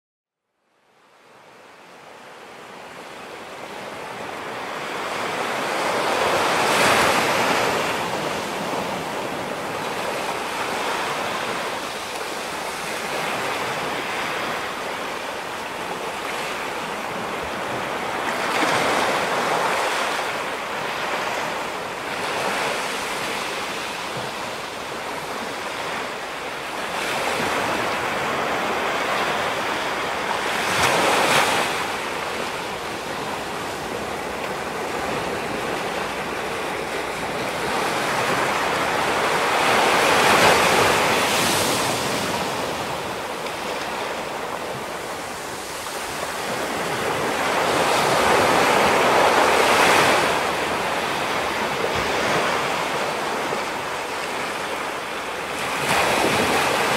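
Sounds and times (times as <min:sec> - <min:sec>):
surf breaking on rocky shore: 0:04.2 - 0:56.9.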